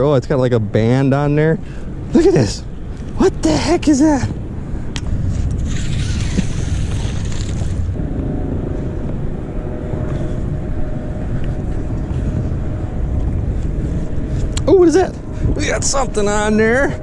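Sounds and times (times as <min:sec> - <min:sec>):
faint engine hum: 0:00.0 - 0:17.0
wind rumbling on microphone: 0:00.0 - 0:17.0.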